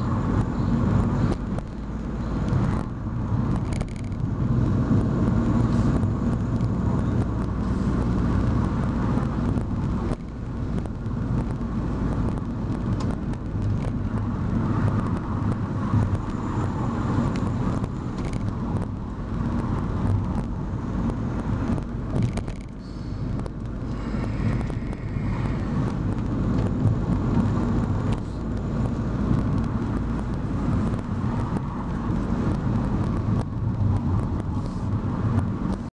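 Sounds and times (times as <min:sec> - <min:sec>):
car cabin road rumble: 0:00.0 - 0:35.9.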